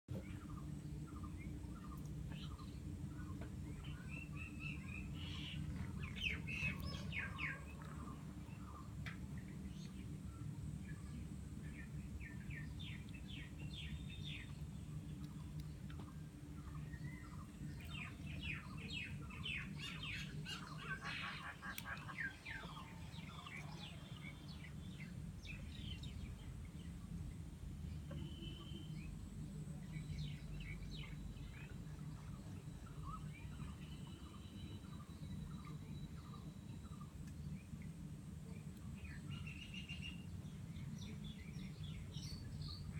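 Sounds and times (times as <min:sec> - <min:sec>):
low background rumble: 0:00.1 - 0:42.9
small birds chirping: 0:00.1 - 0:42.9.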